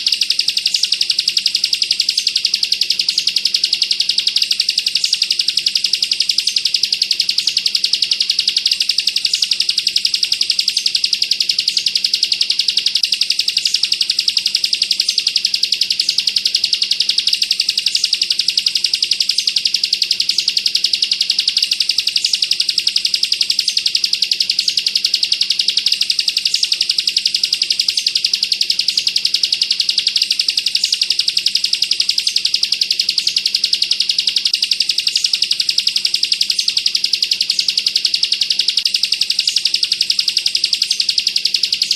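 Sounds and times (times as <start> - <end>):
bird singing a rattling trill: 0.0 - 41.9.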